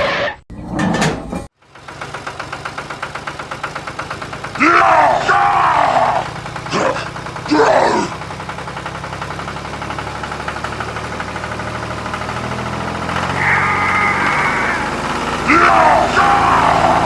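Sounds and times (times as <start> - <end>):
small engine idling with ticking: 1.6 - 17.0.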